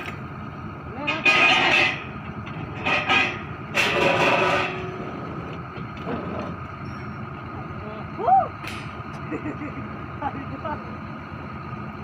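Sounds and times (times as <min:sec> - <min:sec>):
drilling rig running: 0:00.0 - 0:12.0.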